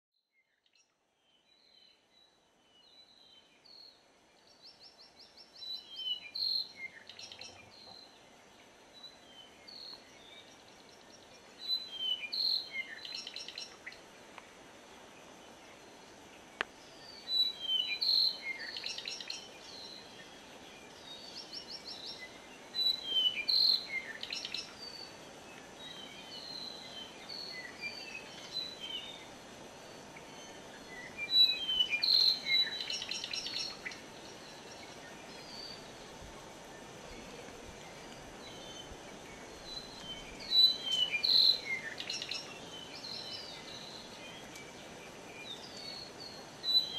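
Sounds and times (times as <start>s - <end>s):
forest birds singing: 0.2s - 46.9s
faint high-pitched insect hum: 0.3s - 46.9s.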